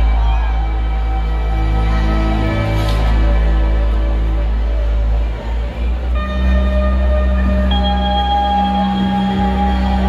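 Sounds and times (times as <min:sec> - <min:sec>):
deep bass drone: 0:00.0 - 0:10.0.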